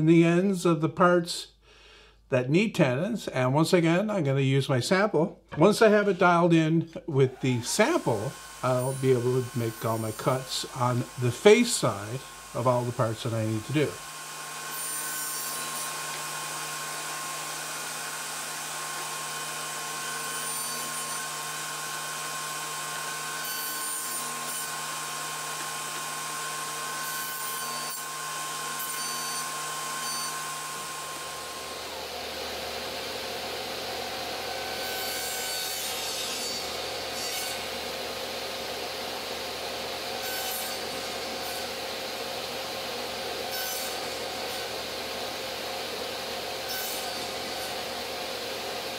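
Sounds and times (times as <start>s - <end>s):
table saw cutting wood: 5.5s - 48.9s.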